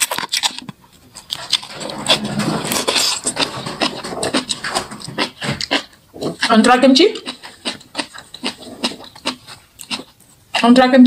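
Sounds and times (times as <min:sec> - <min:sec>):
crunchy wet chewing: 0:00.0 - 0:10.8.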